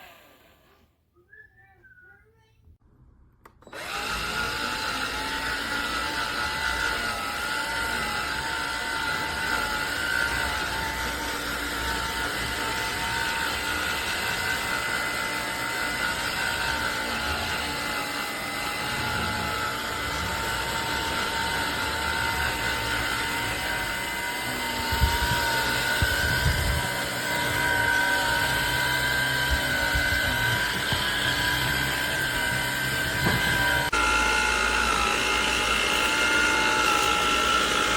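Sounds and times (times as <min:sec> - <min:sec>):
stick vacuum motor whine: 0:00.0 - 0:00.8, 0:03.4 - 0:37.9.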